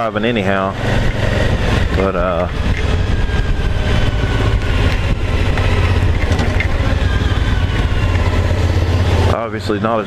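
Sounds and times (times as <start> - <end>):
wind rushing over microphone: 0.0 - 9.5
motorcycle engine drone: 0.0 - 10.0.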